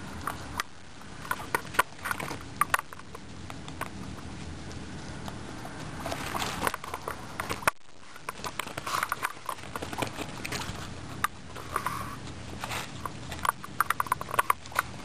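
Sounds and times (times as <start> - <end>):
guinea pigs crunching carrot: 0.0 - 15.0.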